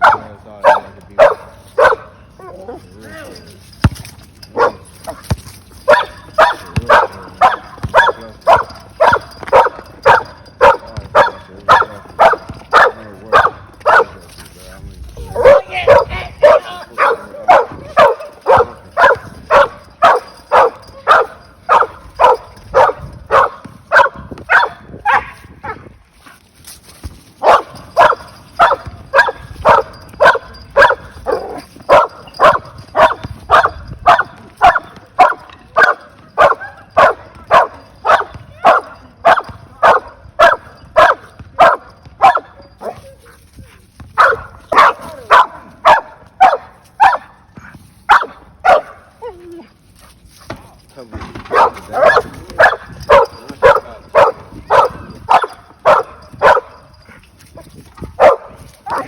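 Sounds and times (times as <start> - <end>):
dog barking: 0.0 - 2.2, 4.5 - 5.3, 5.9 - 14.2, 15.3 - 25.9, 27.4 - 43.0, 44.2 - 47.4, 48.1 - 49.0, 51.5 - 57.0, 58.1 - 59.0.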